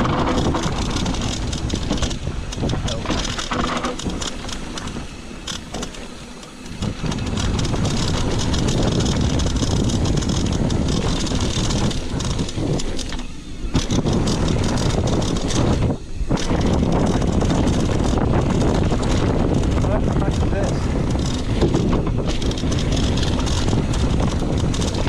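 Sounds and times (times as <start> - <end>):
bike rattling over bumps: 0.0 - 25.0
tyres rolling over dirt: 0.0 - 25.0
wind buffeting microphone: 0.0 - 25.0.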